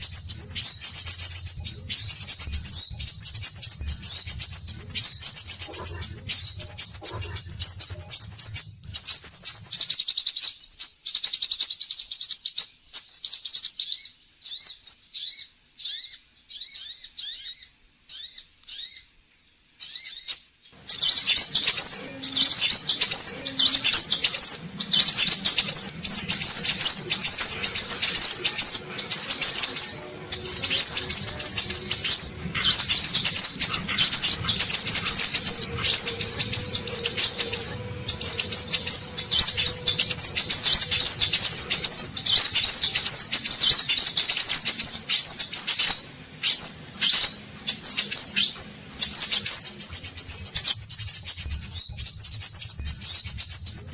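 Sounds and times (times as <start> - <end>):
bird singing high chirps and trills: 0.0 - 53.9
faint background noise: 0.0 - 53.9.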